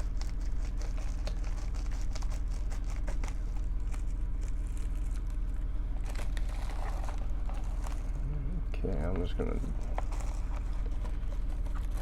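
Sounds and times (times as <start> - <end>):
bubble-wrap mailer crinkling: 0.0 - 8.4, 9.2 - 12.0
steady low hum: 0.0 - 12.0.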